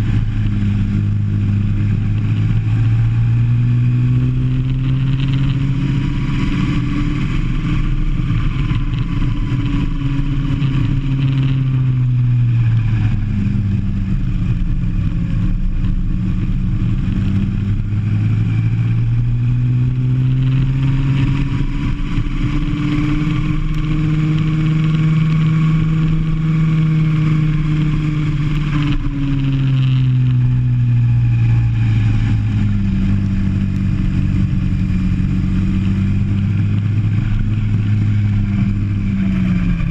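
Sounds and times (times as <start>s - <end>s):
kart engine at speed: 0.0s - 39.9s.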